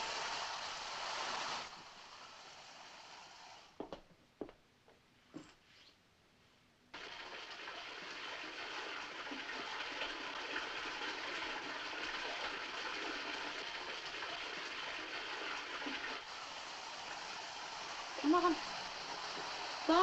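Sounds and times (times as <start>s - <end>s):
water gushing into bathtub: 0.0s - 3.9s, 7.0s - 20.0s.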